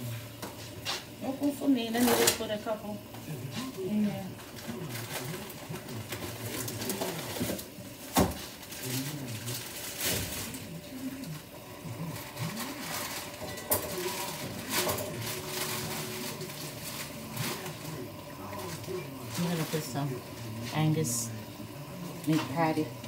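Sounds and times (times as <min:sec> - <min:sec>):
muffled talk: 0:00.0 - 0:23.0.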